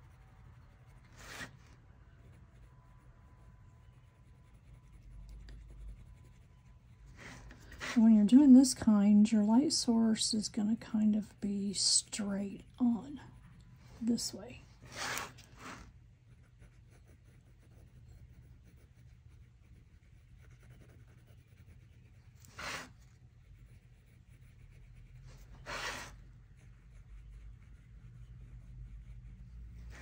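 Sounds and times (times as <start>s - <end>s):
pencil scratching on paper: 0.0s - 30.0s.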